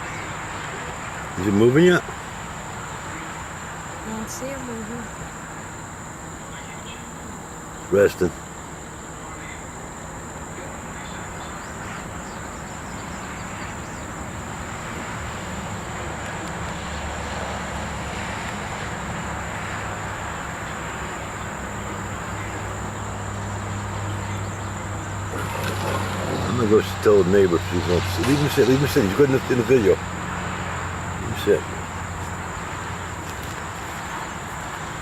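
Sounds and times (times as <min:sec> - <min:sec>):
high-pitched insect chorus: 0:00.0 - 0:35.0
vehicle engine and road noise: 0:00.0 - 0:35.0.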